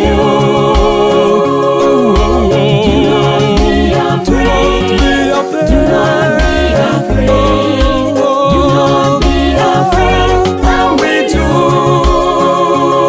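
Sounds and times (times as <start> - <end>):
backing track with bass line: 0.0 - 13.0
voices singing gospel: 0.0 - 13.0.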